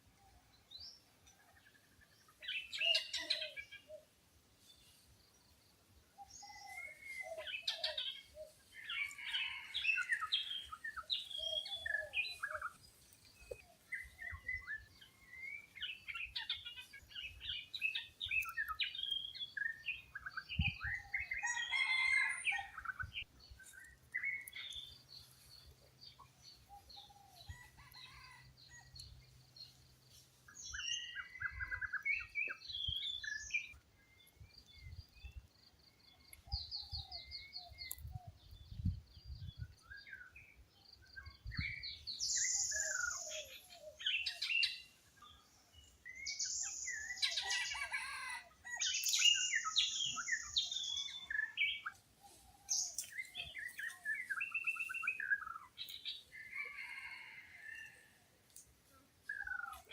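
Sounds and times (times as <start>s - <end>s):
wild birds chirping and trilling: 0.0s - 59.9s.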